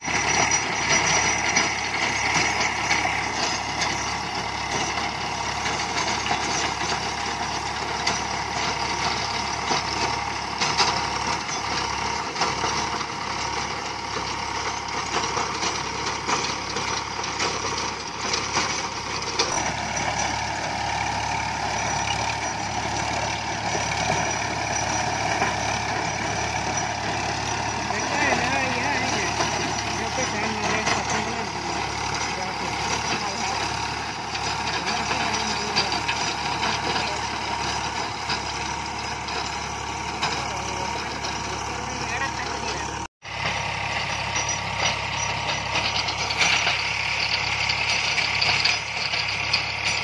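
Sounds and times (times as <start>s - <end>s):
rotavator blades churning soil: 0.0s - 50.0s
tractor diesel engine running: 0.0s - 50.0s.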